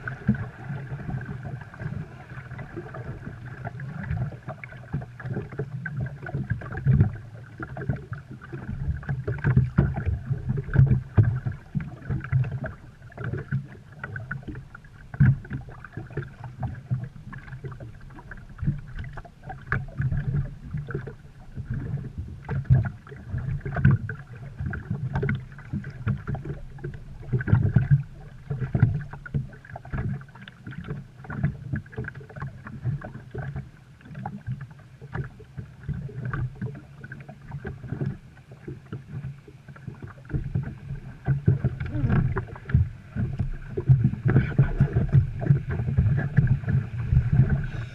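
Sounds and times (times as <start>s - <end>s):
watercraft engine rumble: 0.0s - 47.9s.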